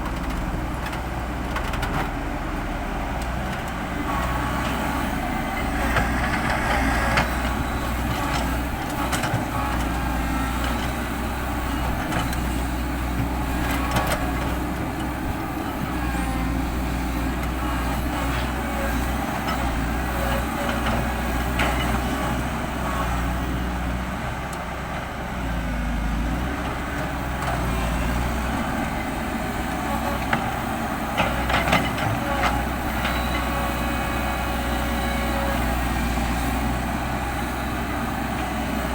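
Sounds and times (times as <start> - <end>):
diesel machinery running: 0.0 - 38.9.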